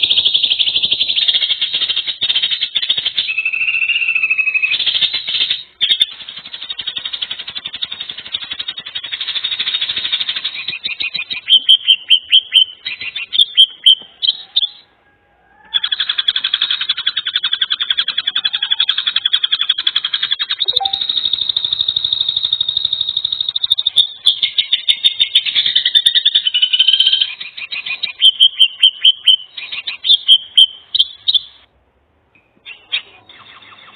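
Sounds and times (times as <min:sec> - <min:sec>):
loud animal chirps: 0:00.0 - 0:14.9, 0:15.6 - 0:31.7.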